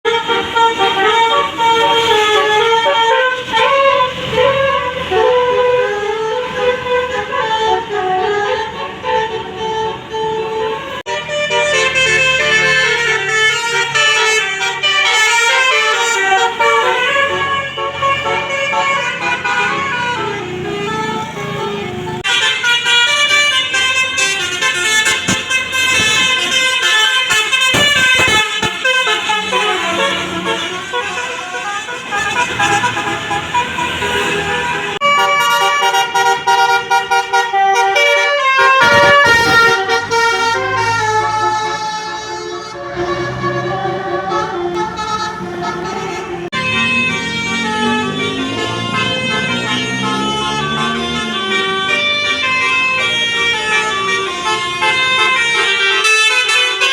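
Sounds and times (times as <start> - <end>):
musical air horn melody: 0.0 - 56.9
bus engine running: 0.1 - 56.9.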